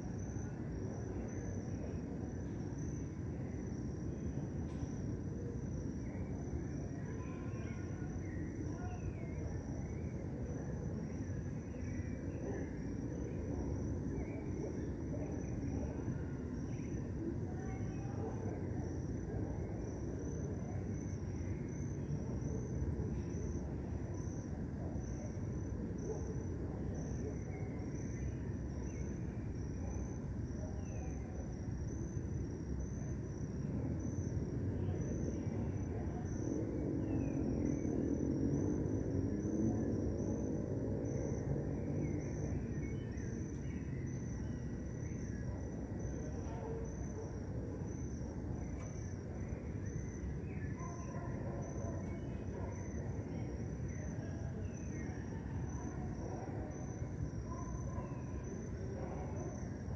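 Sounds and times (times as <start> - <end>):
crickets chirping: 0.0 - 59.9
low city rumble: 0.0 - 59.9.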